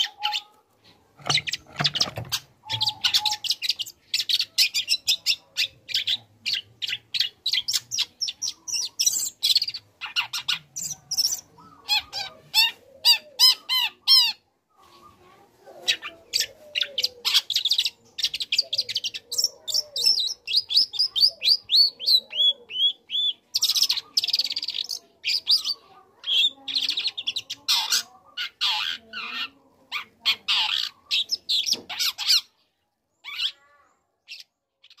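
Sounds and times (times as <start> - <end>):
bird singing harsh chattering song: 0.0 - 35.0.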